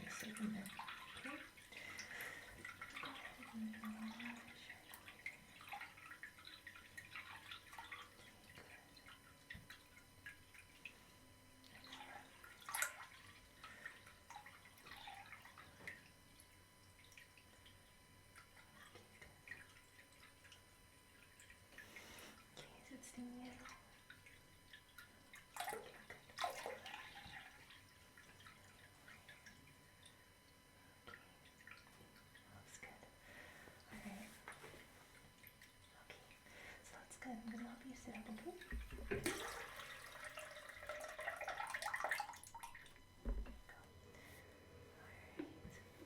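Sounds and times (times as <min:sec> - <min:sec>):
water dripping into a sink: 0:00.0 - 0:33.2, 0:33.8 - 0:43.9.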